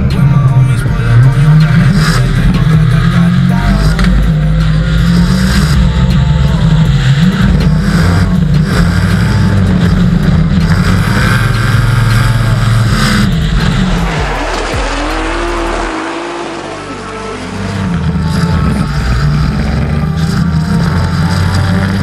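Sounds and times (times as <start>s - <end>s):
car engines at high revs: 0.0s - 22.0s.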